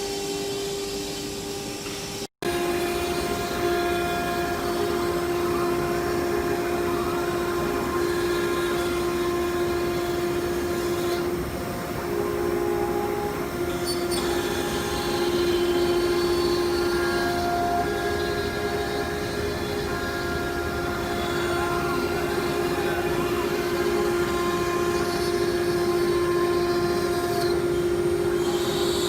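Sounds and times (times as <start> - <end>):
router spindle whining: 0.0 - 29.0.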